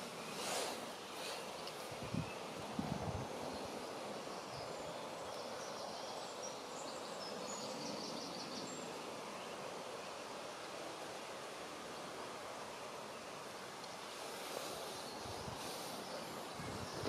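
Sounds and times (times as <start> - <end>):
outdoor background rushing noise: 0.0 - 17.0.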